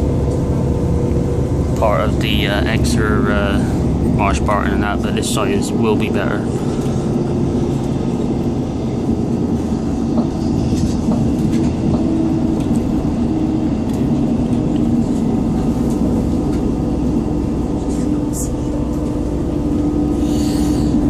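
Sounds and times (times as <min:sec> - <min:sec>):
train engine and wheels drone: 0:00.0 - 0:21.0.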